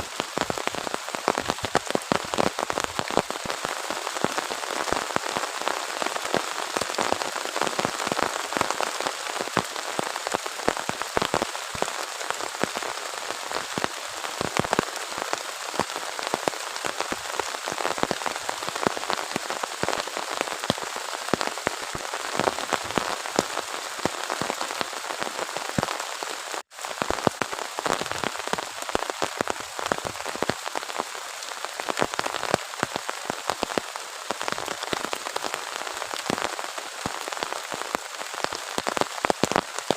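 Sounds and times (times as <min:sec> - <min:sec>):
heavy rain falling: 0:00.0 - 0:39.9
raindrops hitting a surface: 0:00.0 - 0:39.9.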